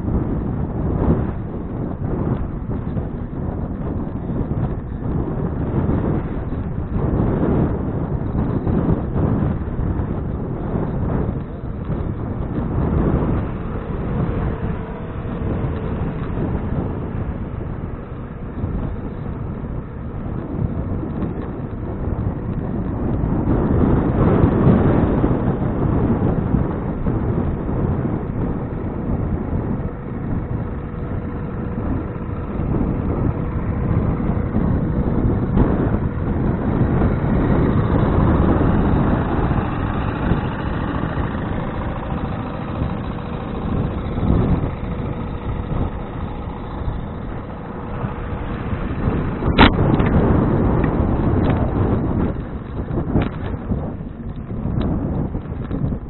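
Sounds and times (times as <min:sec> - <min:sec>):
bicycle road noise: 0:00.0 - 0:56.0
motor traffic passing: 0:00.0 - 0:56.0
wind noise: 0:00.0 - 0:56.0.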